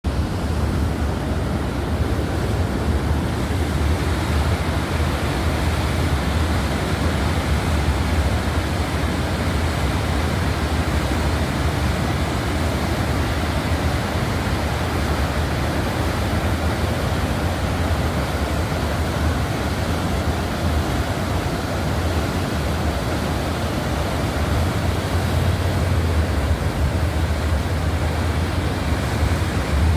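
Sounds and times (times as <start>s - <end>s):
waterfall rushing: 0.0s - 29.9s
deep water rumble: 0.1s - 29.9s.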